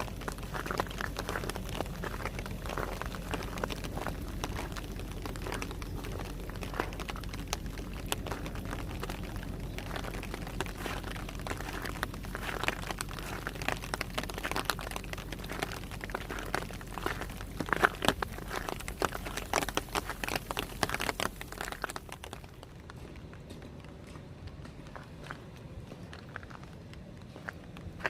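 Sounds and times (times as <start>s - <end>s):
rain and hail falling: 0.0s - 28.0s.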